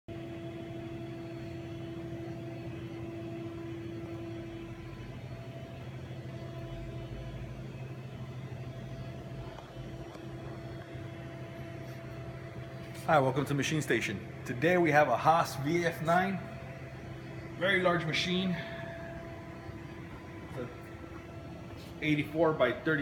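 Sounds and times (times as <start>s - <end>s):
electrical hum: 0.1s - 23.0s
faint steady machine tones: 0.1s - 23.0s.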